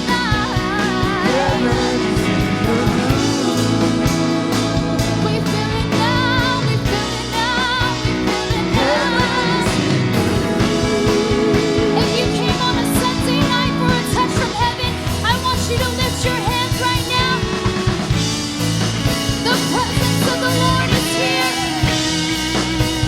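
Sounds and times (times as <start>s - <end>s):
steady drum beat: 0.0s - 23.0s
worship band music: 0.0s - 23.0s.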